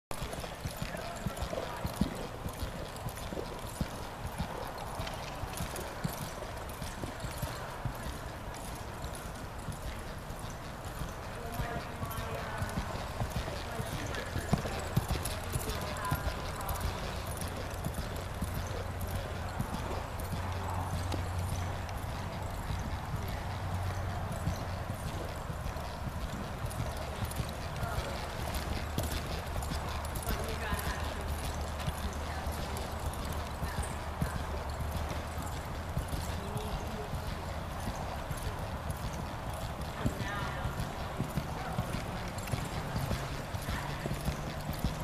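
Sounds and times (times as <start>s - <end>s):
horse hoofbeats on dirt: 0.1s - 45.0s.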